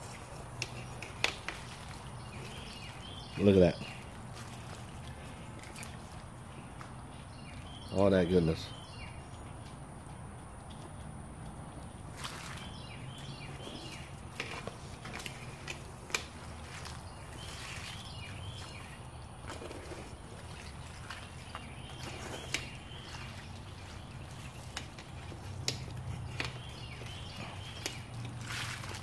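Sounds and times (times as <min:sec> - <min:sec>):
broth sloshing: 0:00.0 - 0:29.0.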